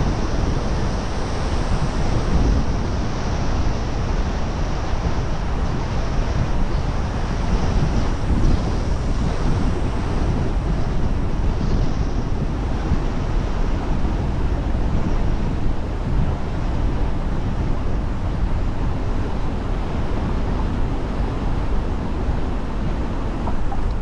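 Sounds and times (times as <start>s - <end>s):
tyres rumbling on road: 0.0s - 24.0s
wind on microphone: 0.0s - 24.0s.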